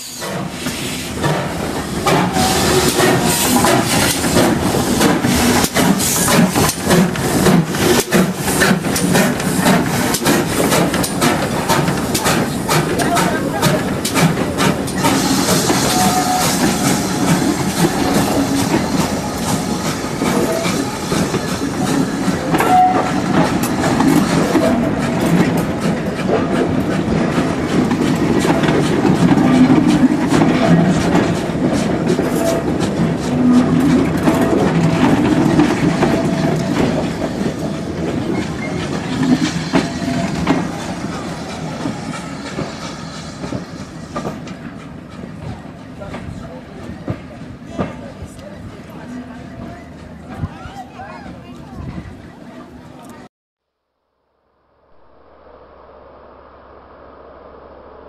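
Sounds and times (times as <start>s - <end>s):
train wheels clattering over rail joints: 0.2s - 50.5s.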